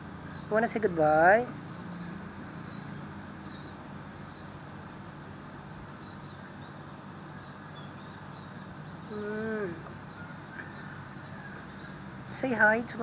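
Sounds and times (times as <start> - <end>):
outdoor ambience hum: 0.0 - 13.0.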